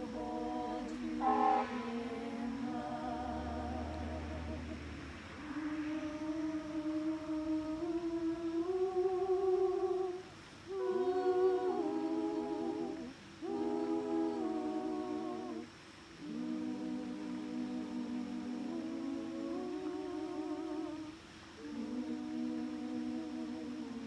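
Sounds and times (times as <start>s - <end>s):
women's choir singing a cappella: 0.0s - 24.0s.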